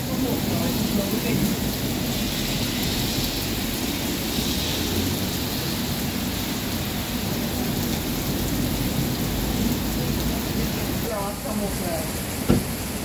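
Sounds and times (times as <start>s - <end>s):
heavy rain on asphalt and cars: 0.0s - 13.0s.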